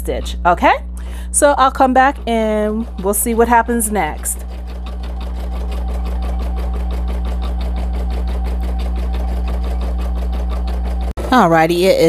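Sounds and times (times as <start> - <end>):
embroidery machine needle strokes: 0.0 - 11.7
motor hum: 0.0 - 12.0.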